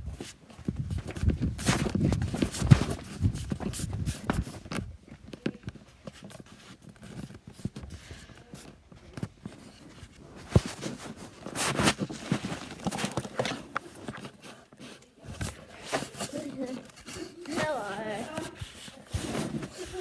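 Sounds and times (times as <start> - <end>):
footsteps: 0.0 - 20.0.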